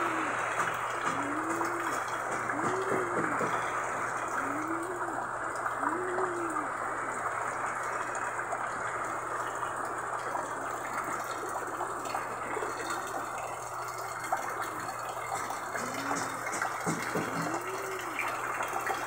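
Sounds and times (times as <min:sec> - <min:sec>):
heavy rain on concrete: 0:00.0 - 0:19.0.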